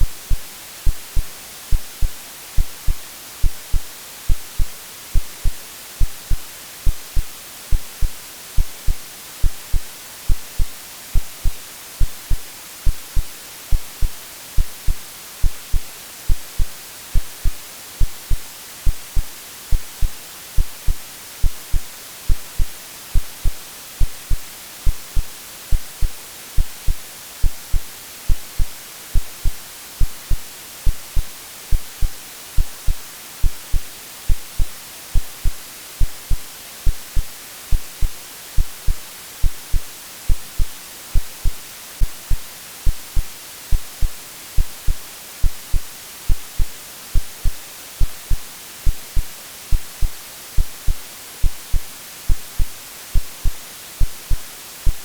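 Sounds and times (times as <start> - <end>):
synthetic heartbeat thumps: 0.0 - 41.6, 42.3 - 55.0
white noise hiss: 0.0 - 55.0.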